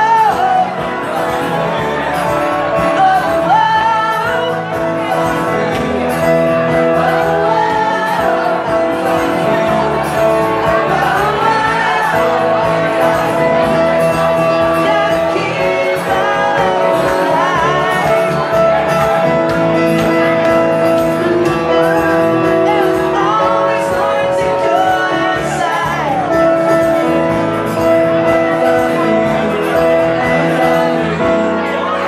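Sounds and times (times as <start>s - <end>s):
acoustic guitar: 0.0s - 32.0s
man singing: 0.0s - 32.0s
stage piano: 0.0s - 32.0s.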